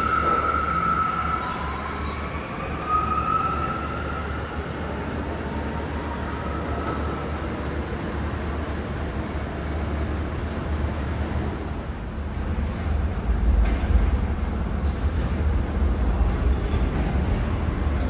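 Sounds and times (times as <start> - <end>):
subway train rumble: 0.0 - 18.0
train high whine: 0.0 - 18.0.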